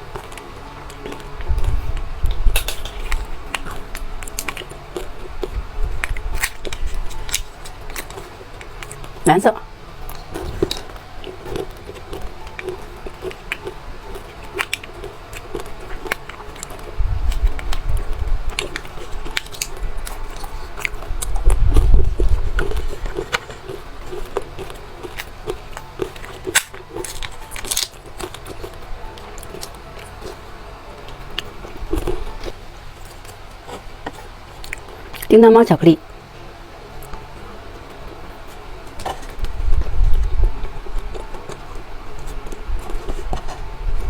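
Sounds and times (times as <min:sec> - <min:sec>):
person chewing candy: 0:00.0 - 0:35.4.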